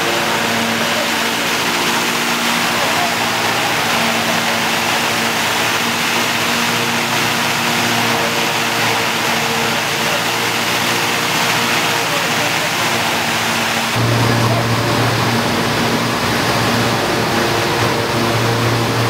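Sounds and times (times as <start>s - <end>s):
constant hum: 0.0s - 19.0s
mill machinery running: 0.0s - 19.0s.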